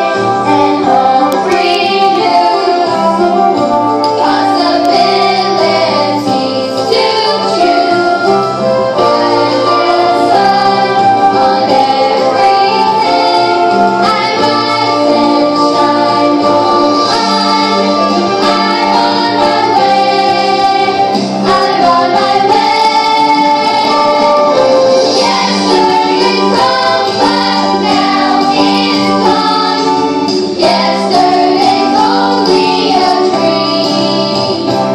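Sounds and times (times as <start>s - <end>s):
children's choir singing: 0.0s - 34.9s
instrumental accompaniment: 0.0s - 34.9s.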